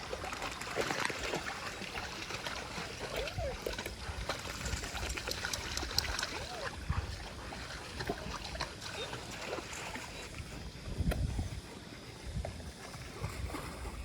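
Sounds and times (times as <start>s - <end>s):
heavy low water sloshes: 0.0s - 14.0s
pool water lapping and splashing: 0.0s - 14.0s.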